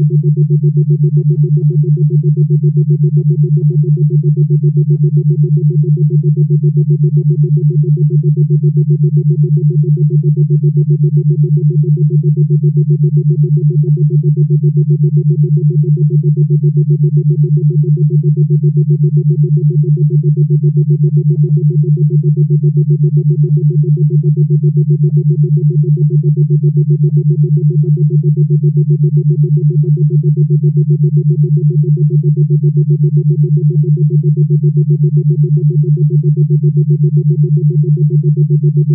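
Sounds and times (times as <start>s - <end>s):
pulsing synthesized low drone: 0.0s - 38.9s.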